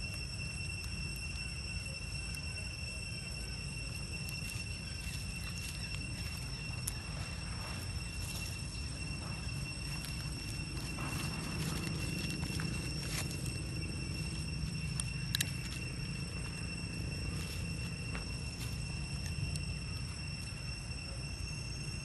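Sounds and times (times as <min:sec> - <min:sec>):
crackling of dry leaves: 0:00.0 - 0:22.0
high-pitched insect drone: 0:00.0 - 0:22.0
low steady rumble: 0:00.0 - 0:22.0.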